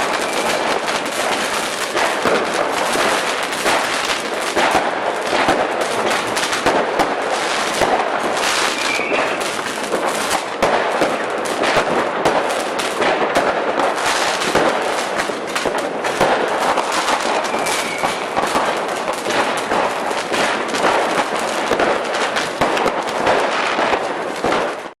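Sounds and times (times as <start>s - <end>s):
firecrackers cracking and popping: 0.0s - 25.0s.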